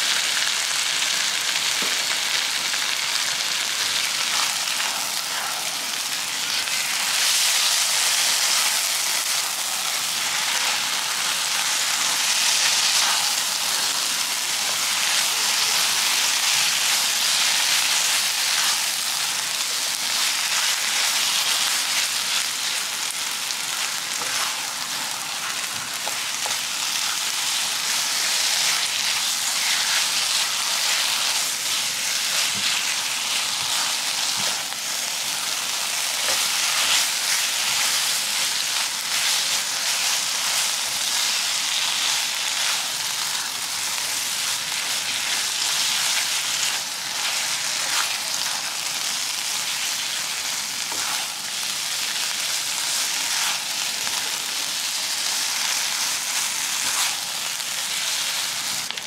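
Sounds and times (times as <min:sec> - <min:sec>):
paste sizzling in a wok: 0:00.0 - 0:59.0.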